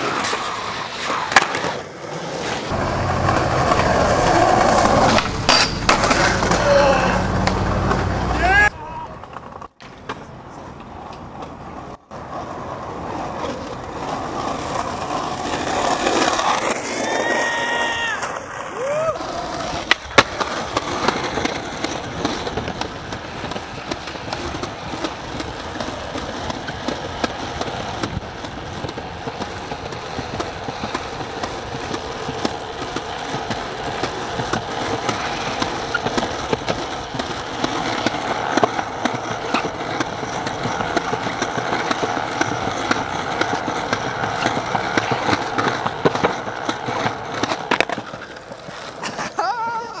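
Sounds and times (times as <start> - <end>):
skateboard clacks: 0.0 - 50.0
skateboard trucks grinding curb: 0.0 - 50.0
skateboard wheels rolling on concrete: 0.0 - 50.0.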